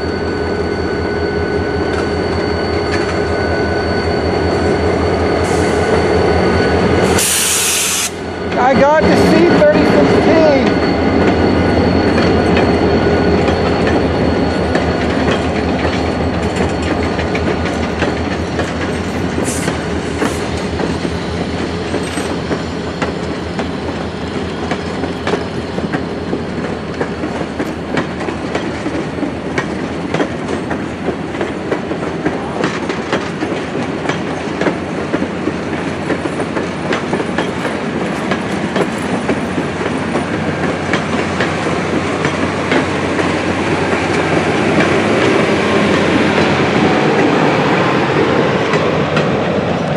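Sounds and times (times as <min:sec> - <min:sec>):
train wheels clicking over rail joints: 0:09.8 - 0:49.9.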